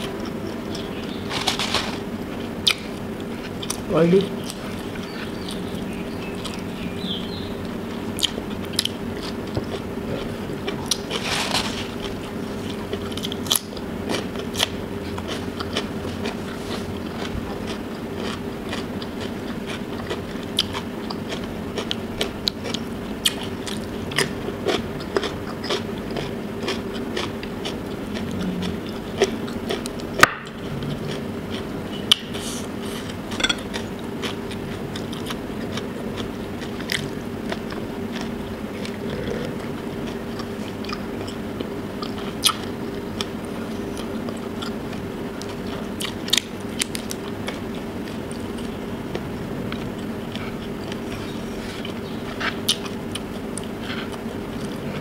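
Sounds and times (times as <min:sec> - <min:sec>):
chewing and crunching food: 0:00.0 - 0:55.0
steady low hum: 0:00.0 - 0:55.0.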